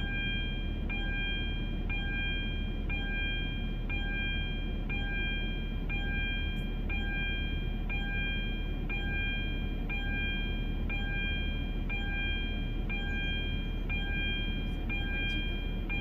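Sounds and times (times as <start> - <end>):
car electronic warning chime: 0.0 - 16.0
steady low hum: 0.0 - 16.0.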